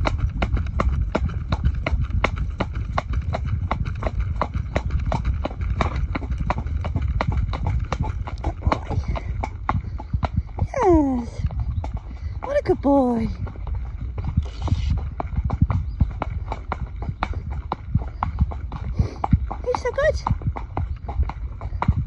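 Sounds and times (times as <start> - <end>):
horse hooves clip-clopping on tarmac: 0.0 - 22.0
steady low rumble: 0.0 - 22.0.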